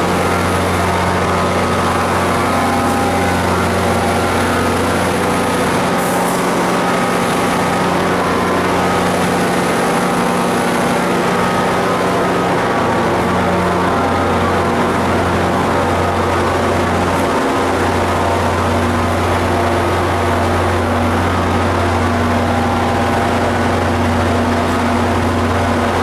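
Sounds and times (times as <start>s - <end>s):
locomotive engine droning: 0.0s - 26.0s.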